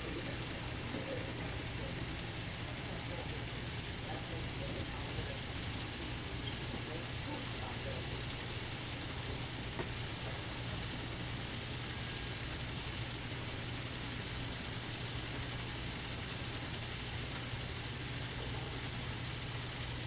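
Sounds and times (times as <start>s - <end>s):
model locomotives humming: 0.0s - 20.0s.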